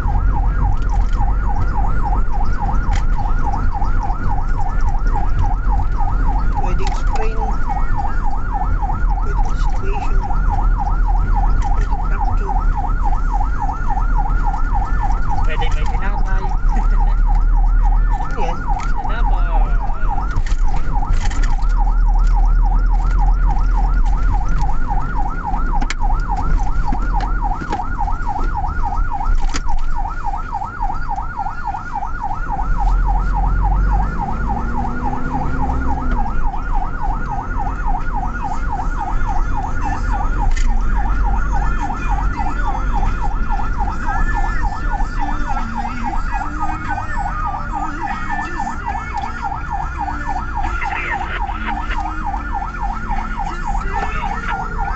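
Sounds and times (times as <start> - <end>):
ambulance siren yelping: 0.0 - 54.9
engine and road noise rumble: 0.0 - 54.9.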